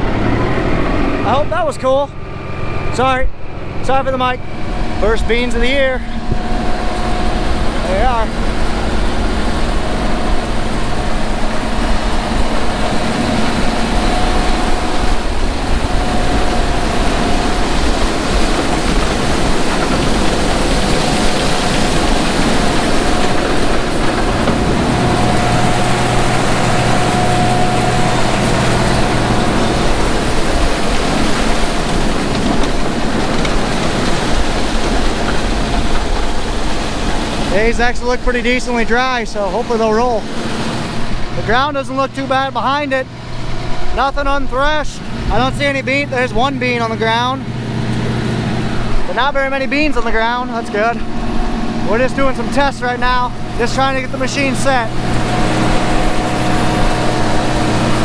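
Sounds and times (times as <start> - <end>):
combine harvester engine: 0.0 - 58.0.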